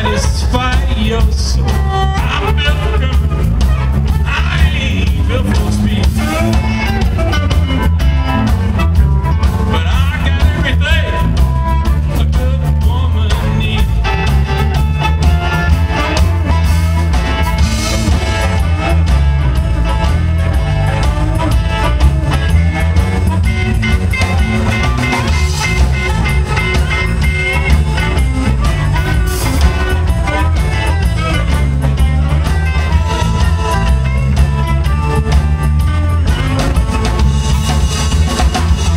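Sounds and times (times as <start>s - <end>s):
amplified harmonica: 0.0s - 38.9s
electric blues band playing: 0.0s - 38.9s.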